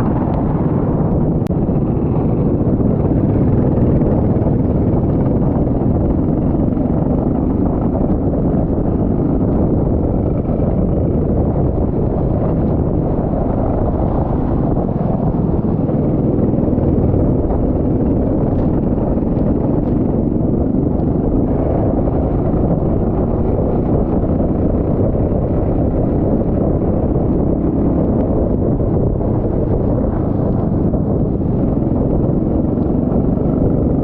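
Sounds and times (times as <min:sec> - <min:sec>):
go-kart engine running: 0:00.0 - 0:34.0
wind rumble on microphone: 0:00.0 - 0:34.0.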